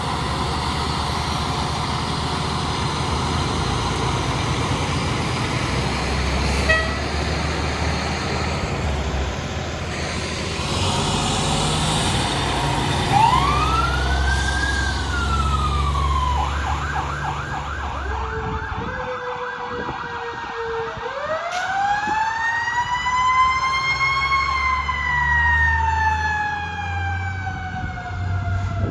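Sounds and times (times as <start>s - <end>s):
diesel engines rumbling: 0.0s - 20.4s, 21.2s - 28.9s
fire engine sirens: 0.0s - 28.9s.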